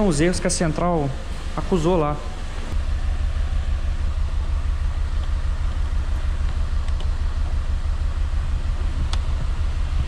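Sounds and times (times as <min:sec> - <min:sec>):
car engine idling roughly: 0:01.0 - 0:10.0.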